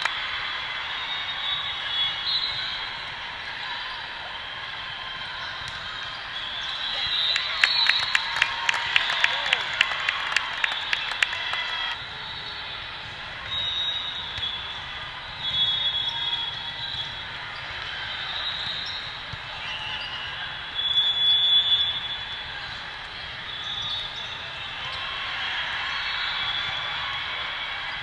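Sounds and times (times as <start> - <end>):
murmur of spectators: 0.0 - 28.0.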